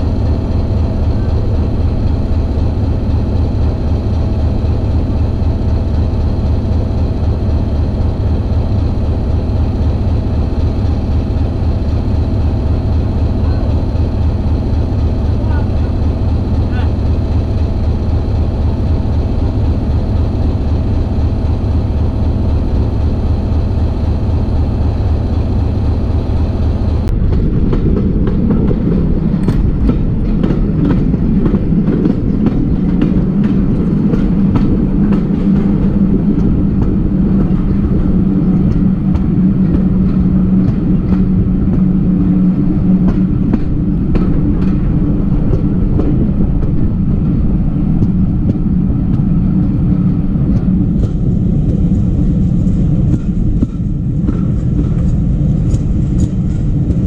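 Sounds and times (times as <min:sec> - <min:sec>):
train engine drone: 0:00.0 - 0:57.0
wheels clicking on track: 0:00.0 - 0:57.0.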